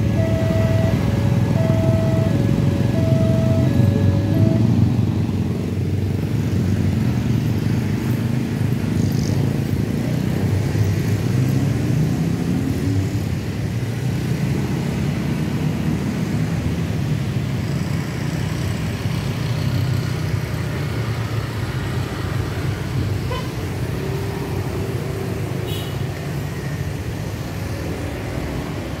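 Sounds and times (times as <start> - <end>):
road traffic engine rumble: 0.0 - 29.0.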